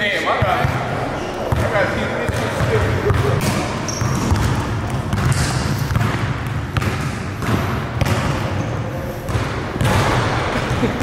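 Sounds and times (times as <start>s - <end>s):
basketball bouncing on wooden court: 1.5s - 10.9s.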